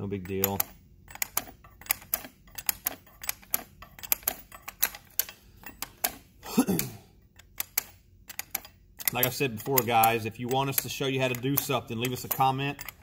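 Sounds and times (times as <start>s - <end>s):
wrench clicking on metal nut: 0.2s - 13.0s.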